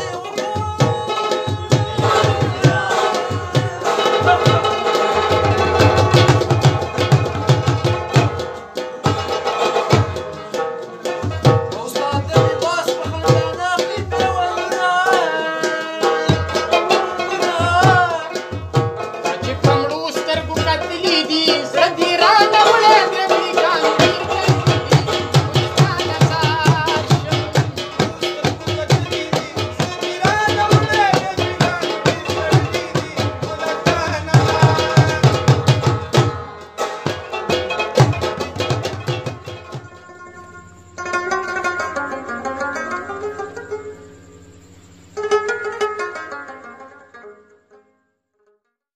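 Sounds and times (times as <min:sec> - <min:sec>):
hand drum beating: 0:00.0 - 0:40.1
men singing: 0:00.0 - 0:40.2
plucked lute: 0:00.0 - 0:44.5, 0:45.2 - 0:48.8.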